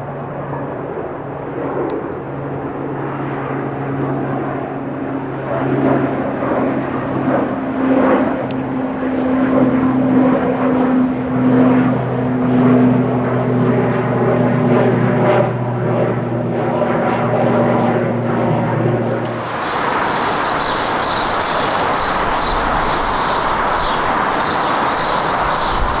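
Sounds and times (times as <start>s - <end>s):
airliner engines rushing: 0.0s - 26.0s.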